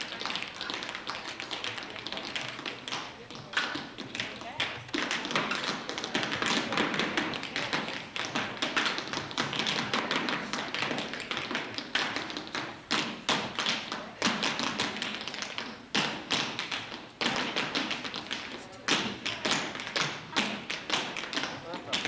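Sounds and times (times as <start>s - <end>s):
tap shoes on wooden floor: 0.0s - 22.0s.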